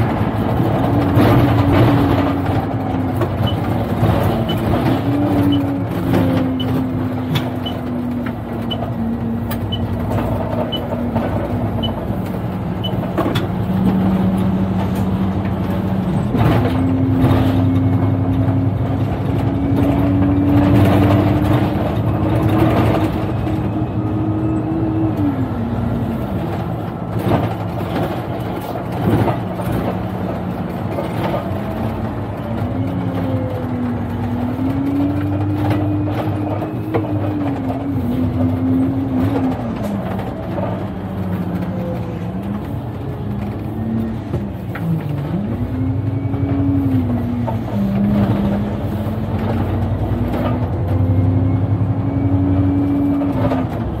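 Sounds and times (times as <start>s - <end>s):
bus engine: 0.0s - 54.0s.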